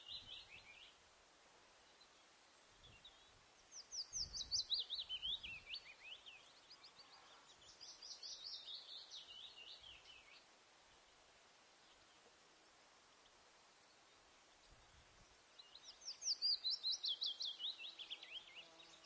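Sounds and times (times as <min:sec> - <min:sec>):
bird chirping: 0:00.0 - 0:01.0, 0:01.8 - 0:11.2, 0:13.2 - 0:19.0
faint background noise: 0:00.0 - 0:19.0.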